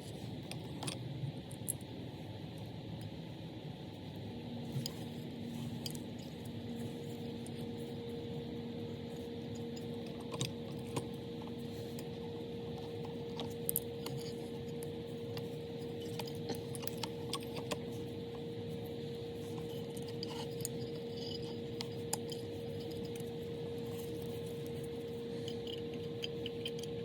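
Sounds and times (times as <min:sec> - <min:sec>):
background hum: 0:00.0 - 0:27.0.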